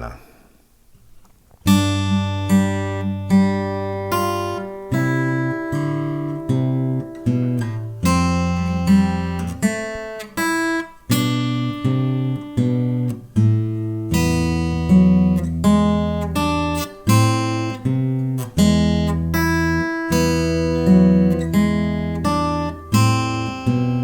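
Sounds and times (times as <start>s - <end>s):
acoustic guitar playing: 0.9s - 24.0s.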